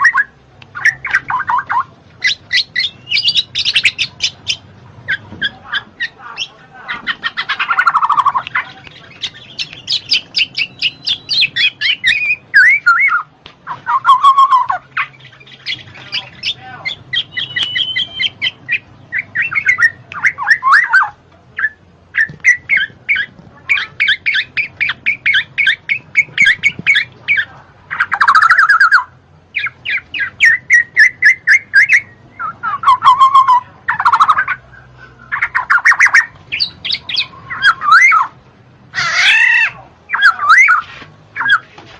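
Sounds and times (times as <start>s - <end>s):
oriole chattering: 0.0s - 41.8s
oriole harsh squawking calls: 0.0s - 41.8s.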